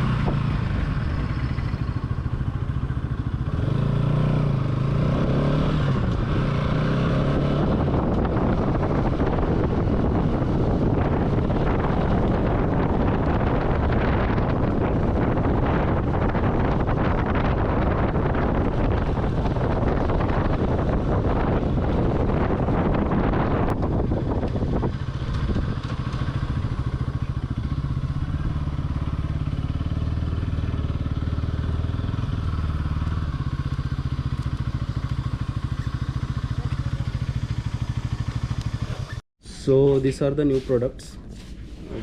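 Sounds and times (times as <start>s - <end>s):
motorcycle engine running: 0.0s - 39.2s
wind noise on microphone: 0.0s - 42.0s.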